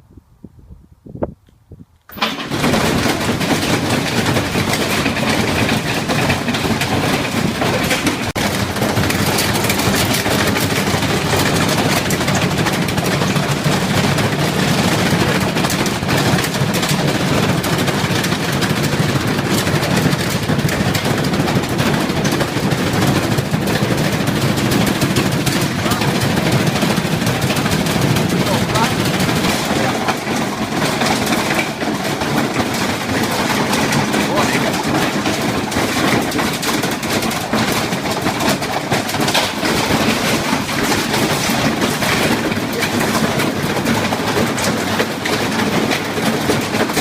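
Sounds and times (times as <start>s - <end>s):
loud mechanical clatter: 2.1s - 47.0s.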